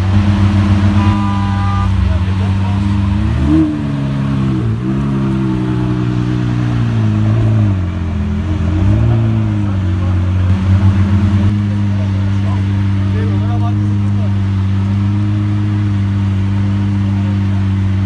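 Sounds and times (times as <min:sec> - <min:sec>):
car engine idling and revving: 0:00.0 - 0:18.0
pulsing exhaust stutter: 0:00.0 - 0:18.0.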